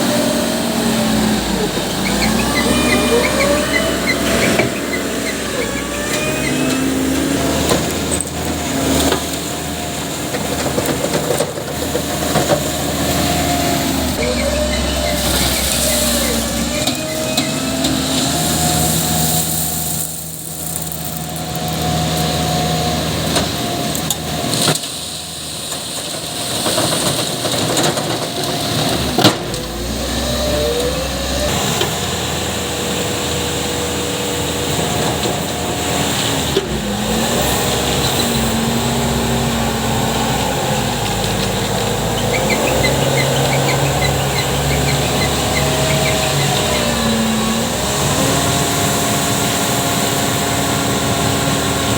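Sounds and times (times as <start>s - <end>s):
diesel machinery engine revving: 0.0s - 51.9s.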